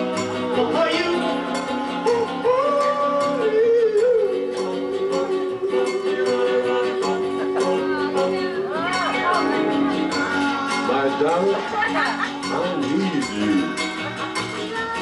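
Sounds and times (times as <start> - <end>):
person singing: 0.0 - 15.0
song with steady beat: 0.0 - 15.0.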